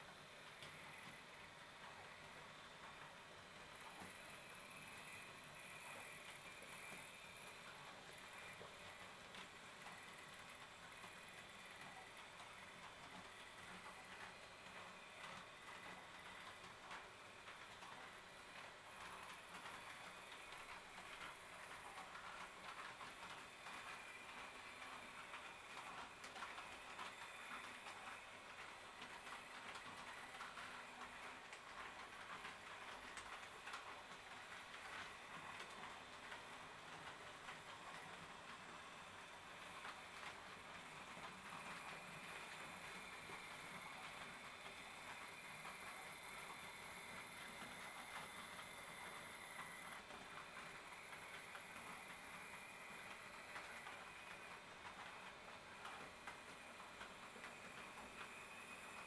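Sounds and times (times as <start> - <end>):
model train running: 0.0 - 59.0.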